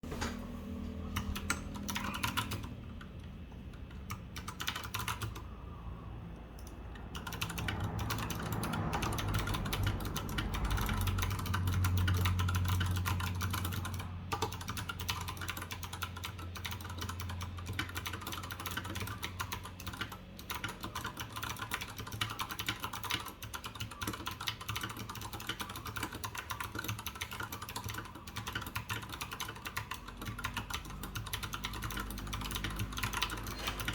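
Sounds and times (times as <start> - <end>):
mechanical keyboard typing: 1.1 - 5.5, 6.4 - 33.9.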